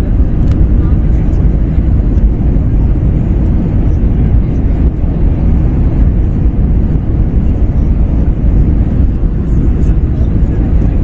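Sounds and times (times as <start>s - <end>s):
airflow along fuselage: 0.0s - 11.0s
deep rumble of jet engines: 0.0s - 11.0s.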